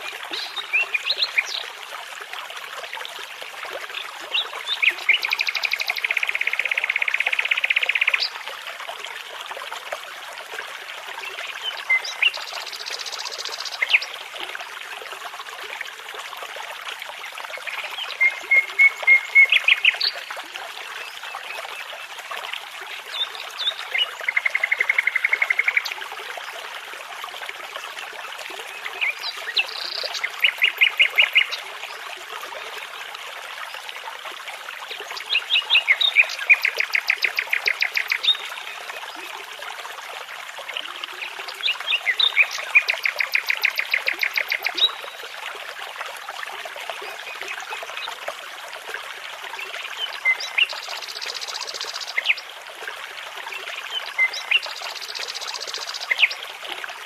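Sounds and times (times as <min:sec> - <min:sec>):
babbling brook: 0:00.0 - 0:57.0.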